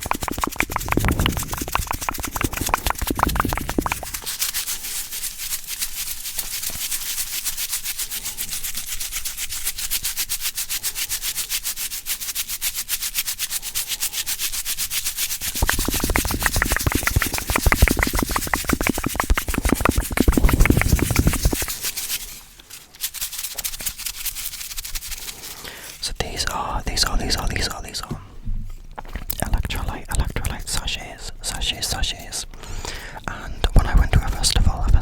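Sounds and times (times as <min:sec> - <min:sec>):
scratching against microphone: 0:00.0 - 0:10.8, 0:14.7 - 0:32.4, 0:33.4 - 0:35.0.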